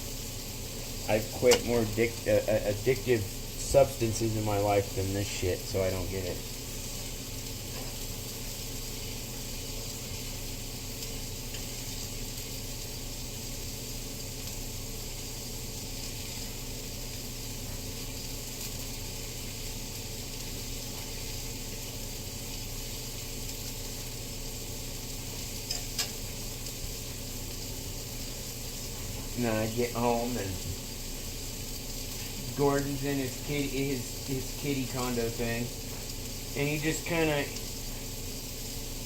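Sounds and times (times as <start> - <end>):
food sizzling in a pan: 0.0 - 39.0.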